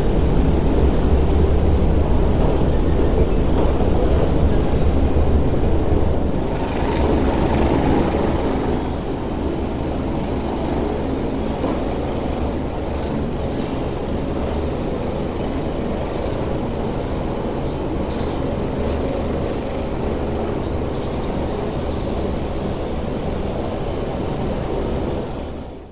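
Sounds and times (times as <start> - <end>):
ferry engine rumble: 0.0 - 25.9
harbour ambience: 0.0 - 25.9.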